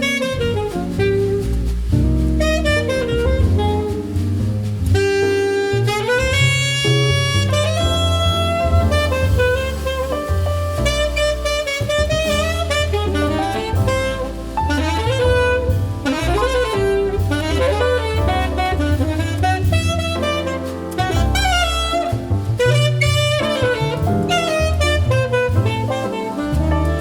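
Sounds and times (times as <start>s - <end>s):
saxophone melody: 0.0s - 27.0s
walking bass line: 0.0s - 27.0s.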